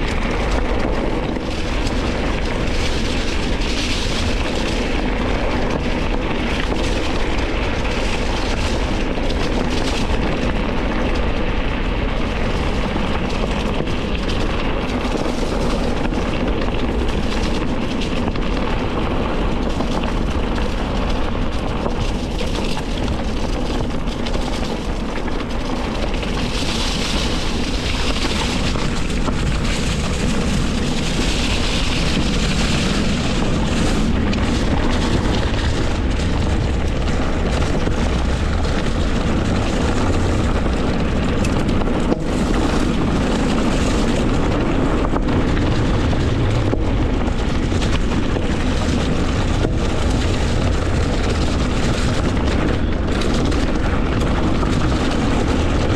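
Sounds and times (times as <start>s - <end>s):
bike rattling and knocking: 0.0s - 55.9s
bike tyres rumbling on trail: 0.0s - 55.9s
wind: 0.0s - 55.9s.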